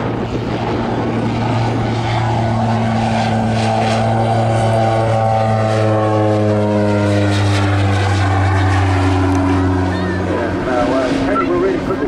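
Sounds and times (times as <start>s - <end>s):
turboprop aircraft flying past: 0.0s - 12.0s.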